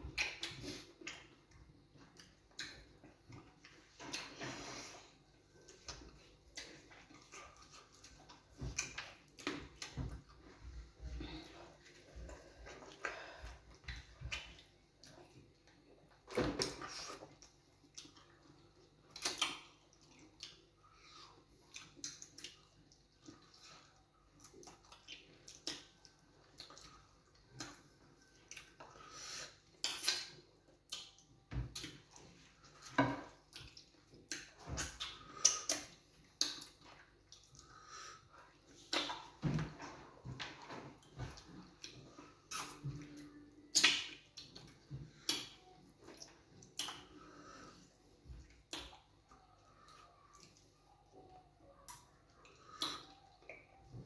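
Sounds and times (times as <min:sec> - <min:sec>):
wet squelchy eating sounds: 0:00.1 - 0:53.8.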